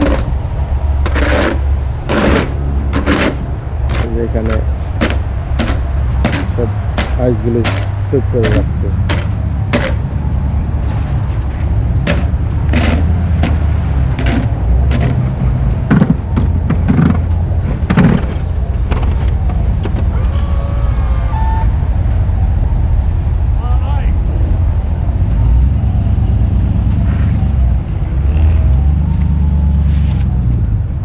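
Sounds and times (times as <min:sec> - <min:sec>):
snowplow engine rumbling: 0:00.0 - 0:31.0.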